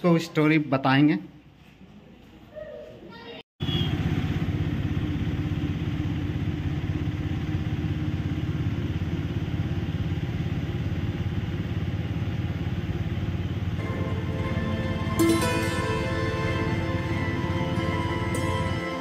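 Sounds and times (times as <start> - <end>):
auto-rickshaw engine running: 3.6 - 19.0.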